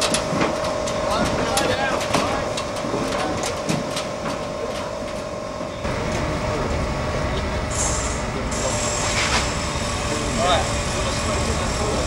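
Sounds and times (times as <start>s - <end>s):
constant hum: 0.0s - 12.0s
machinery rumble: 0.0s - 12.0s.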